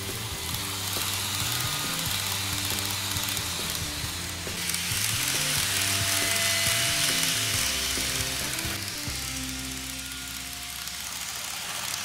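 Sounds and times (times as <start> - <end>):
background music low notes: 0.0 - 12.0
model train running on track: 0.0 - 12.0.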